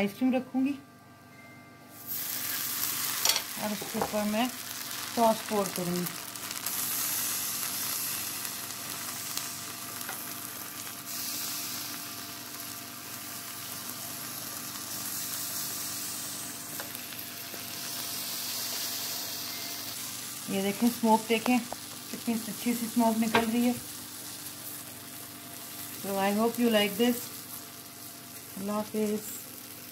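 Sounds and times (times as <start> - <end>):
sauce sizzling on a hot skillet: 2.0 - 29.9.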